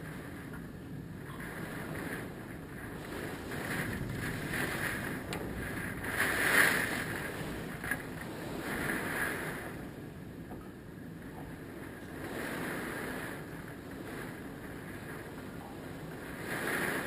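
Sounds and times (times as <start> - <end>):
hurricane winds gusting: 0.0 - 17.0.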